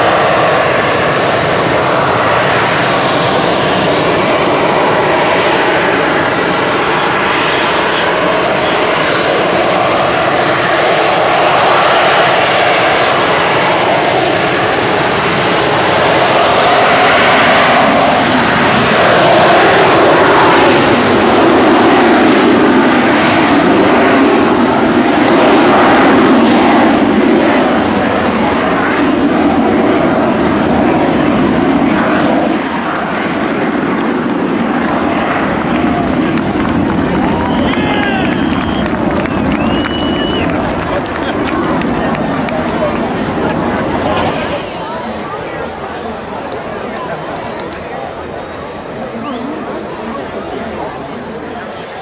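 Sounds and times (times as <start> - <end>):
loud jet engine noise: 0.0 - 52.0.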